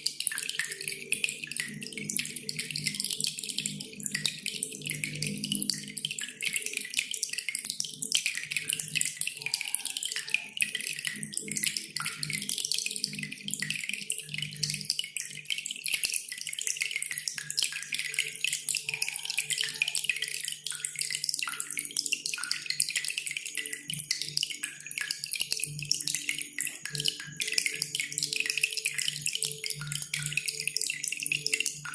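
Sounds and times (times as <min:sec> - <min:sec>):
water dripping and trickling: 0:00.0 - 0:31.9.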